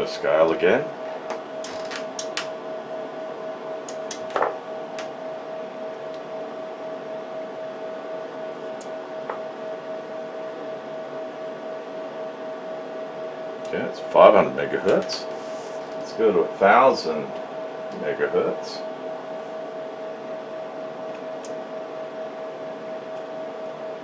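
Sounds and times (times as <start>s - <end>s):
cooling fans humming with whine: 0.0s - 24.0s.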